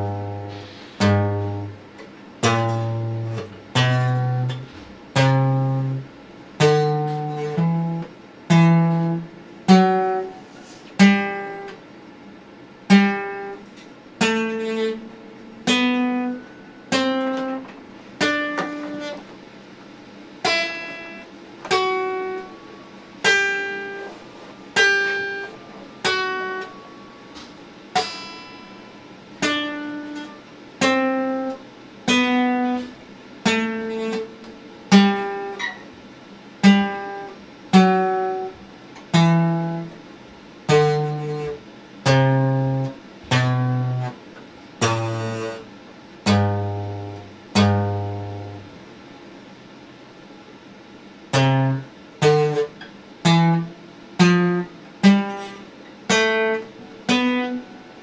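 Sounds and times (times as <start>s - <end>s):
acoustic guitar plucked slowly: 0.0s - 19.4s, 20.4s - 48.9s, 51.3s - 58.0s.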